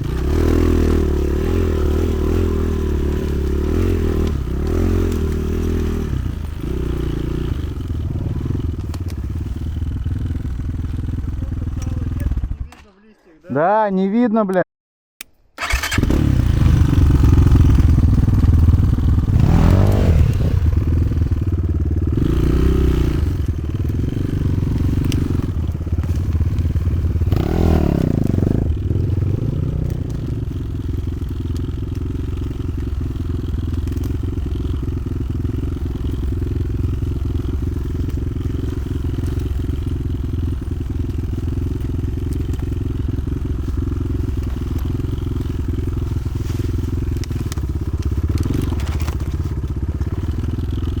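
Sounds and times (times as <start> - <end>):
motorcycle engine revving: 0.0 - 12.7, 15.6 - 51.0.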